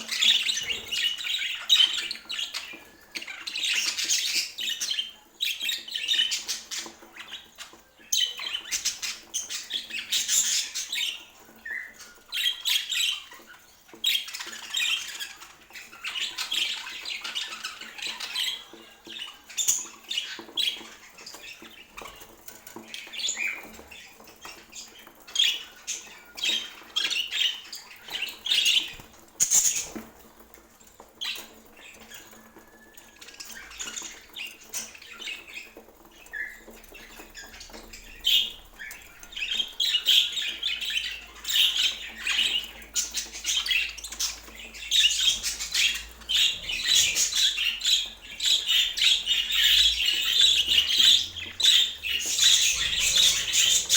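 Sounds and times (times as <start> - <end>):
budgerigars chattering and chirping: 0.0 - 53.9.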